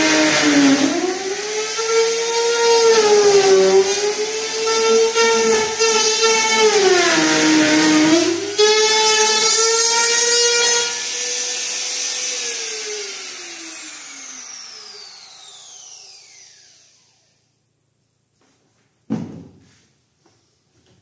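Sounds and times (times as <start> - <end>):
trim router motor whine: 0.0 - 17.6.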